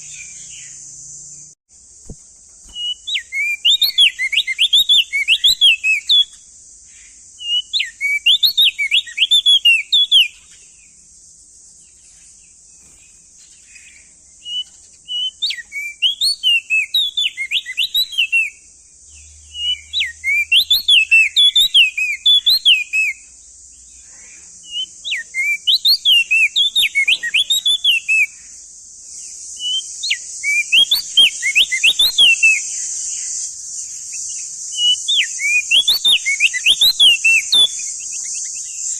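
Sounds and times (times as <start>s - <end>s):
bird chirping song: 0.0s - 38.9s
steady high hiss: 0.0s - 38.9s.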